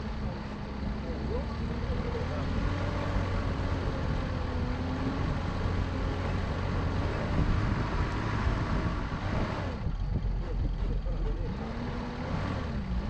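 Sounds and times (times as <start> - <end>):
car engine drone: 0.0 - 13.0.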